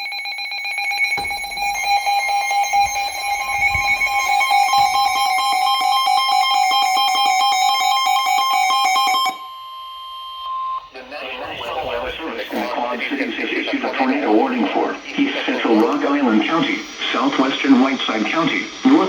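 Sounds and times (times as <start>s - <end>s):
low steady alarm tone: 0.0s - 17.9s
fast pulsing alarm: 0.0s - 19.0s
higher steady alarm tone: 0.0s - 19.0s.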